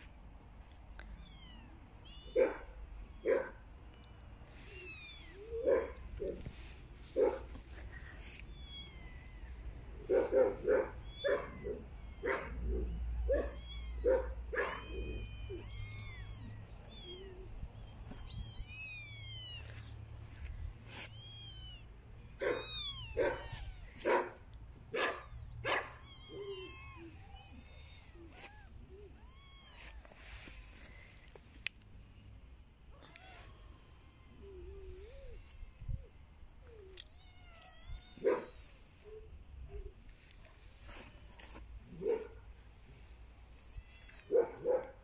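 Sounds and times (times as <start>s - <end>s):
kittens mewing: 0.7s - 31.4s, 32.9s - 45.0s.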